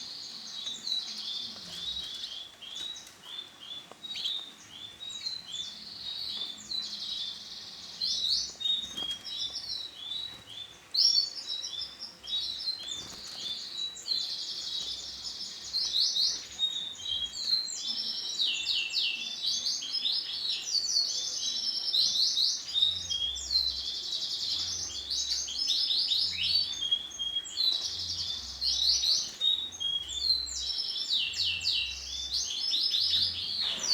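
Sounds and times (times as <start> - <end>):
canary chirping and trilling: 0.1 - 33.9.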